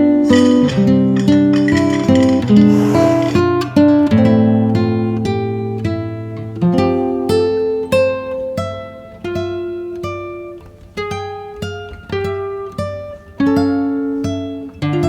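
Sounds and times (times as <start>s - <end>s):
plucked acoustic guitar tune: 0.0s - 15.0s.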